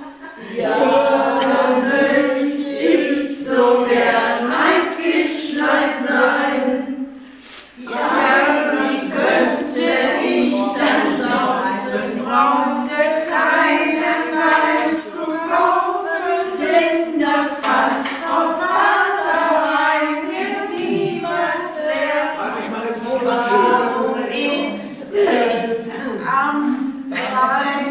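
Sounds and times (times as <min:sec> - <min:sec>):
group of people singing: 0:00.0 - 0:27.9.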